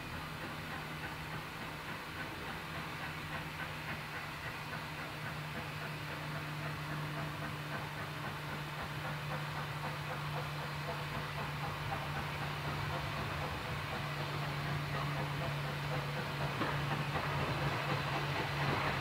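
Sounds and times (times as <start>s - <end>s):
steam locomotive exhaust beats: 0.0s - 19.0s.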